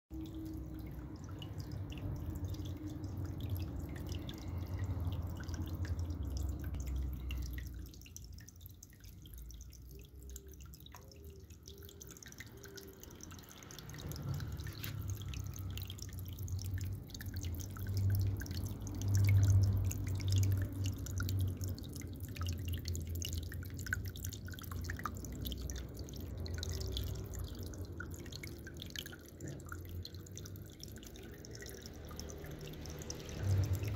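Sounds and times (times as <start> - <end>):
fountain water trickling: 0.1 - 33.9.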